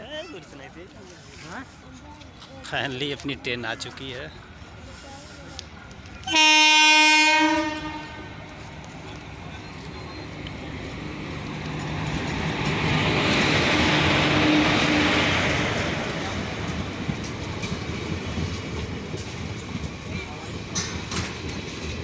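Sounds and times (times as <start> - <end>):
passenger train rumbling: 0.0 - 22.0.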